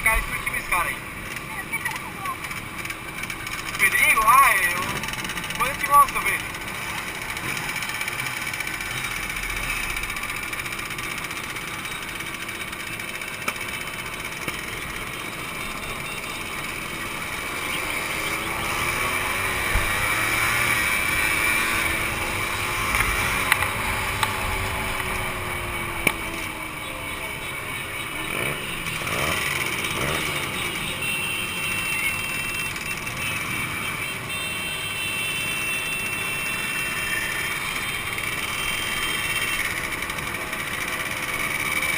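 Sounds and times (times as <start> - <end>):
two-stroke motorcycle engines: 0.0 - 41.9.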